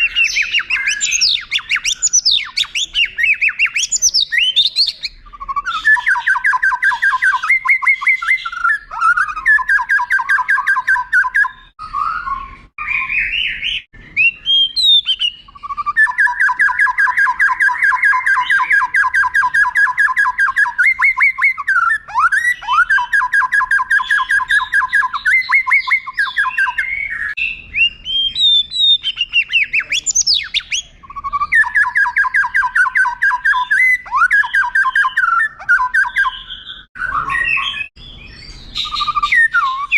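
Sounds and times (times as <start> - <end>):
bird singing rolling trills: 0.0 - 39.9
bird rising whistles: 5.3 - 39.9.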